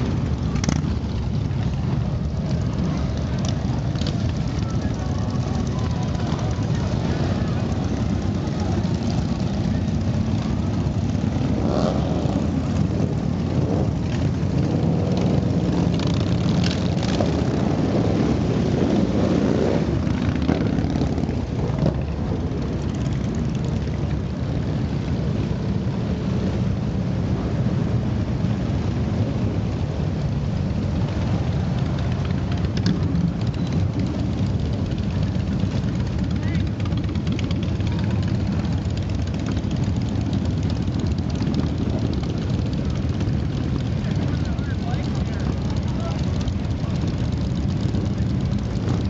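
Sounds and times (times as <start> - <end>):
motorcycles riding past: 0.0 - 49.0.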